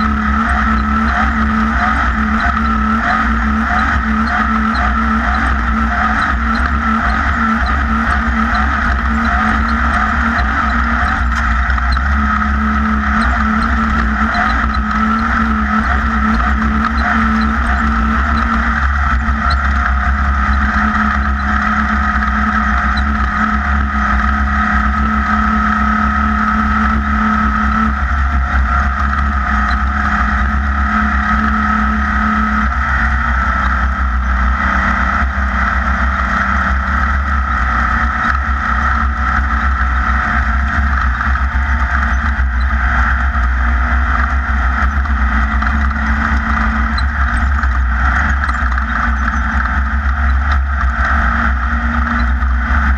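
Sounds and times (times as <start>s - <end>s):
buggy engine rumbling: 0.0s - 52.9s.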